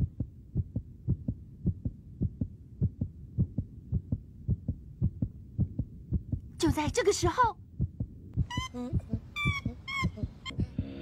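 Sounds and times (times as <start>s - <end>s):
heartbeat thumps: 0.0s - 6.7s, 7.6s - 11.0s.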